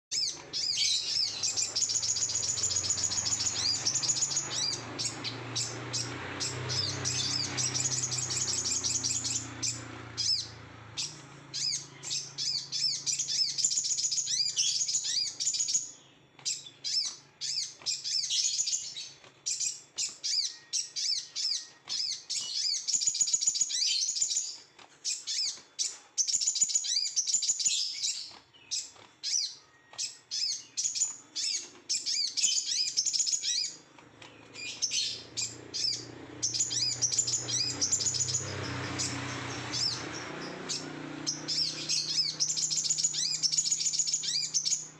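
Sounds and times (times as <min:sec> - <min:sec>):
songbird chattering trills: 0:00.1 - 0:33.8, 0:34.4 - 0:44.9
short bird calls: 0:00.1 - 0:44.9.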